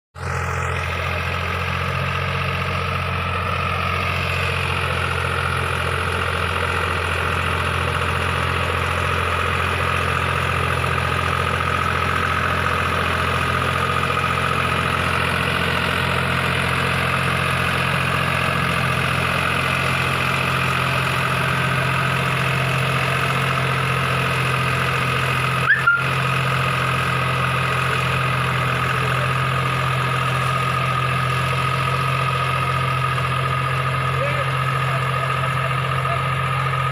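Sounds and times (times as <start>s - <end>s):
tractor diesel engine drone: 0.2s - 36.9s.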